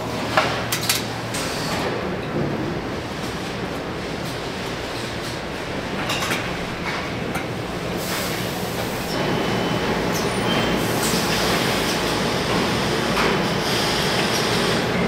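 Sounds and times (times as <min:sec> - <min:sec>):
factory machinery rumble: 0:00.0 - 0:15.0.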